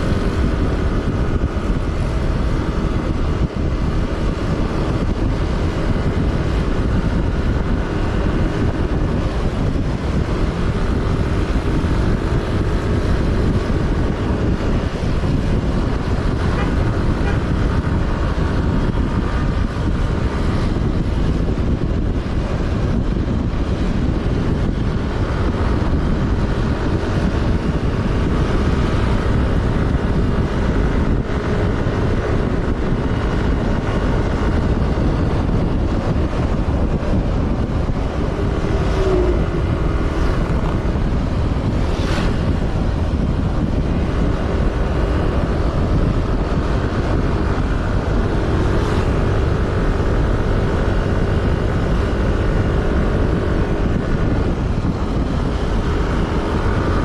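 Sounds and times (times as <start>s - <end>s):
tyre and wind noise: 0.0s - 57.0s
vehicle engine: 0.0s - 57.0s.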